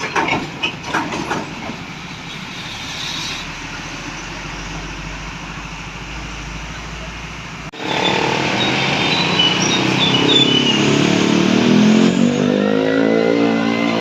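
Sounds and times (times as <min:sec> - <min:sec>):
road noise rushing: 0:00.0 - 0:14.0
truck engine accelerating: 0:00.8 - 0:14.0.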